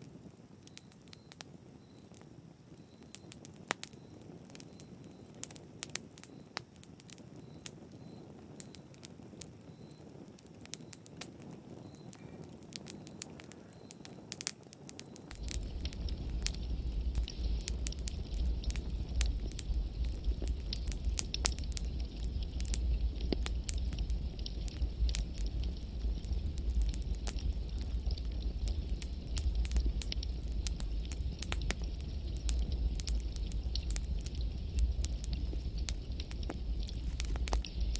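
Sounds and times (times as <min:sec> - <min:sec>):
low rumble of flames: 0:00.0 - 0:37.9
wood fire crackling and popping: 0:00.0 - 0:37.9.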